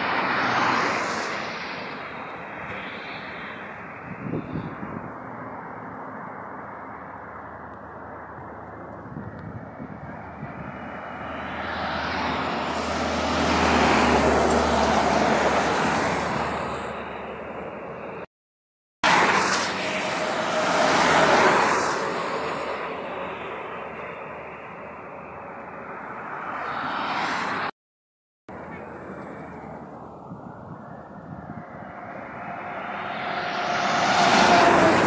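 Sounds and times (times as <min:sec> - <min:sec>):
vehicles passing at speed: 0:00.0 - 0:18.3, 0:19.0 - 0:27.8, 0:28.5 - 0:35.0.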